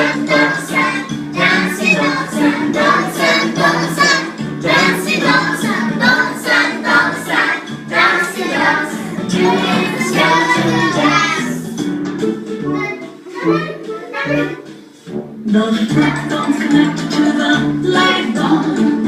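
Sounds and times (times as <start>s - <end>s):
group singing children's song: 0.0s - 11.8s, 12.8s - 19.0s.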